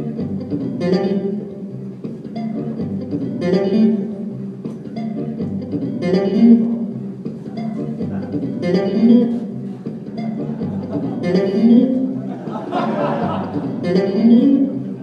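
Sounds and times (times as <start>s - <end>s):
electric bass guitar: 0.0s - 15.0s.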